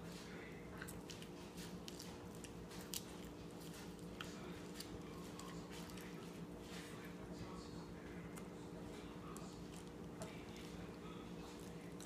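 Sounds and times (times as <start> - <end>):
child chewing: 0.0 - 12.0
low steady hum: 0.0 - 12.0.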